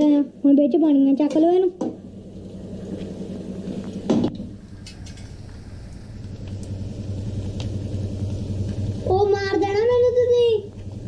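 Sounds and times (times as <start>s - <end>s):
low hum: 1.6s - 11.0s.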